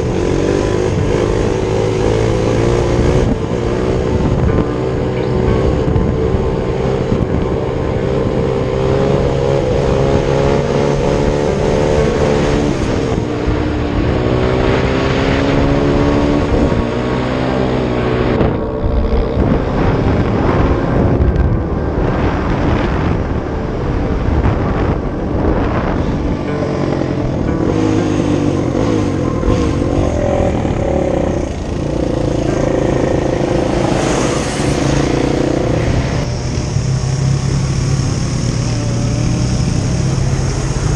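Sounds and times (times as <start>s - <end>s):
off-road vehicle engine revving: 0.0s - 23.4s, 24.3s - 40.9s.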